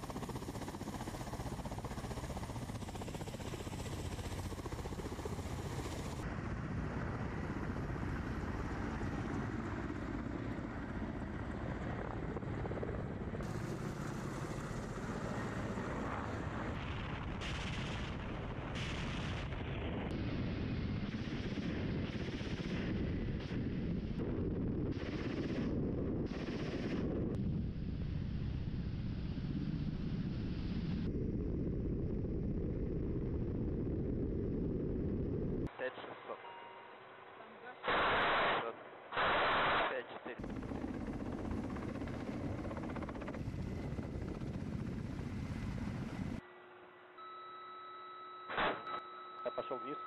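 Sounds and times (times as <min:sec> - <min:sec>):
helicopter rotor and engine: 0:00.0 - 0:35.9, 0:39.9 - 0:50.0.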